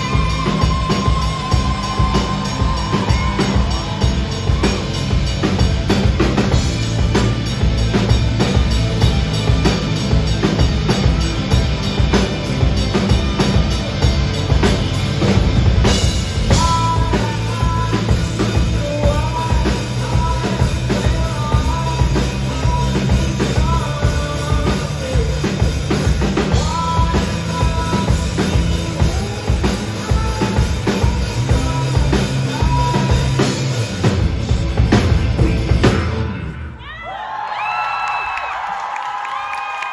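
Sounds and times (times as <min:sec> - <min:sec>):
drum kit beat: 0:00.0 - 0:36.6
rock band playing: 0:00.0 - 0:37.0.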